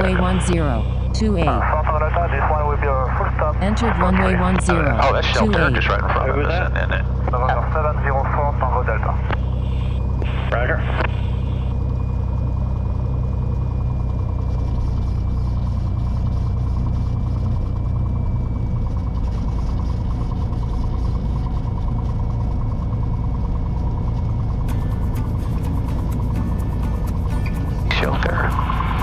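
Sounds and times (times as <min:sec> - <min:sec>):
airplane engine running: 0:00.0 - 0:29.0.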